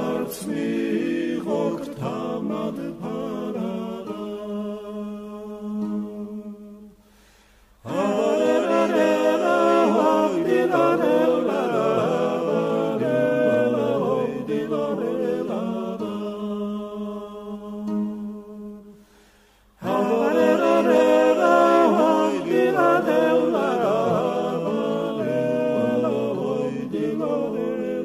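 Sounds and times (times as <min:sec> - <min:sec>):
vocal ensemble singing a cappella: 0:00.0 - 0:28.0.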